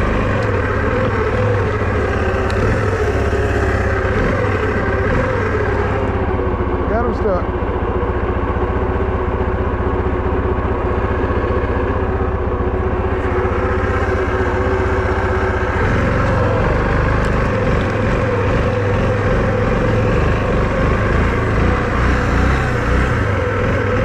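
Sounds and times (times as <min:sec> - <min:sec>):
atv engine idling and revving: 0:00.0 - 0:24.0.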